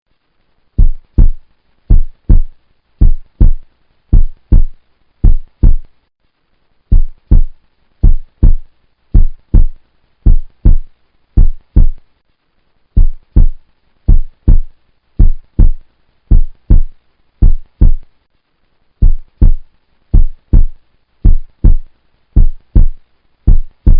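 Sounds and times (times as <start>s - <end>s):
heartbeat thumps: 0.8s - 5.9s, 6.9s - 12.0s, 13.0s - 18.0s, 19.0s - 23.9s.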